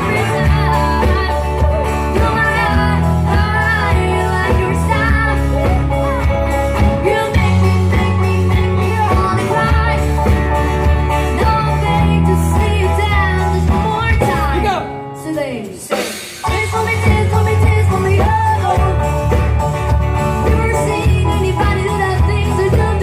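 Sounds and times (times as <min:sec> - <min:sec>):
heavy bass line: 0:00.0 - 0:14.8, 0:16.5 - 0:23.0
person singing: 0:00.0 - 0:19.6
guitar: 0:00.0 - 0:23.0
live band playing: 0:00.0 - 0:23.0.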